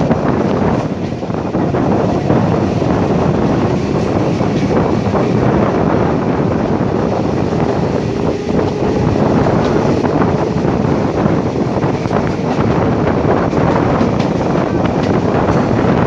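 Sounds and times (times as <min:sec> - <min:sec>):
moving train rumble: 0:00.0 - 0:16.0
wind buffeting microphone: 0:00.0 - 0:16.0.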